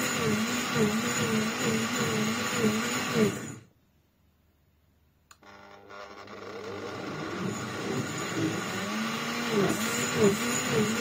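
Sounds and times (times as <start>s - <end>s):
blender motor running: 0.0s - 3.7s, 5.4s - 11.0s.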